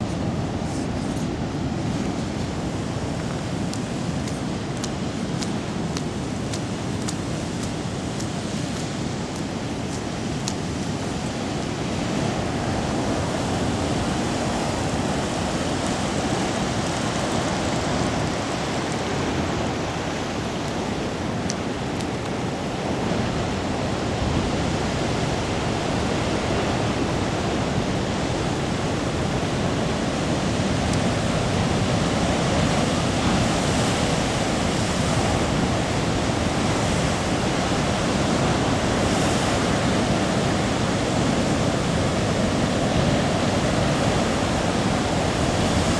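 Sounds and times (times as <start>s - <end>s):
surf crashing on rocky shore: 0.0s - 45.9s.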